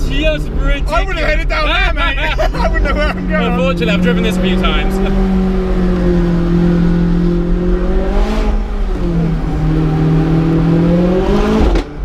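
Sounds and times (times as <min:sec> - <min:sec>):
car engine under load from cabin: 0:00.0 - 0:12.0.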